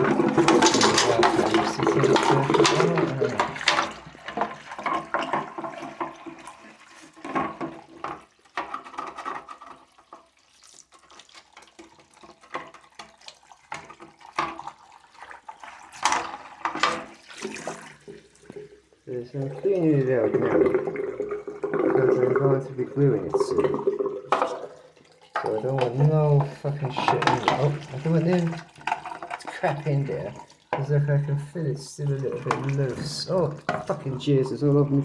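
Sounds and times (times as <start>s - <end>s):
tap water running into sink: 0.0s - 35.0s.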